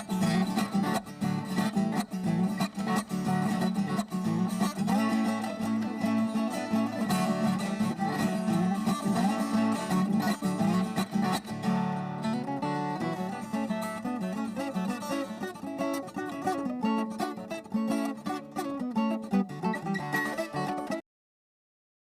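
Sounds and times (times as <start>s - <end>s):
acoustic guitar plucked and strummed: 0.0s - 21.0s.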